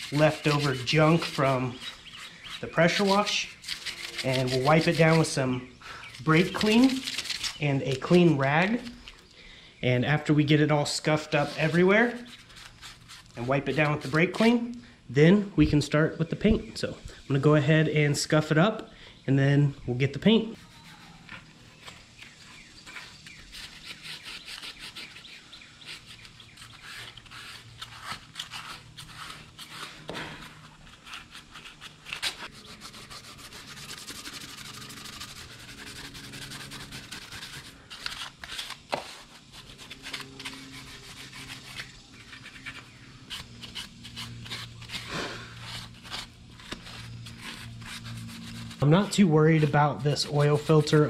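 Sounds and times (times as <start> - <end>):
scuff pad scrubbing metal: 0.0 - 5.6, 6.2 - 9.0, 11.0 - 14.7, 20.5 - 51.0.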